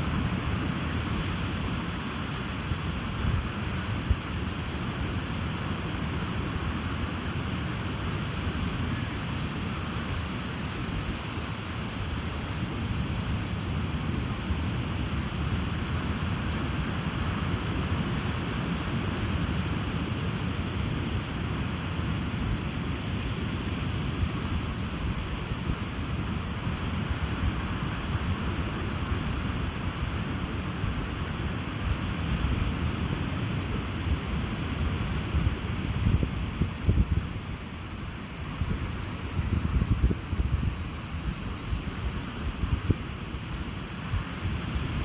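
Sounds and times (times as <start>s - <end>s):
ocean surf washing onto beach: 0.0s - 39.8s
wind: 0.0s - 45.0s
wind rumble on microphone: 0.0s - 45.0s.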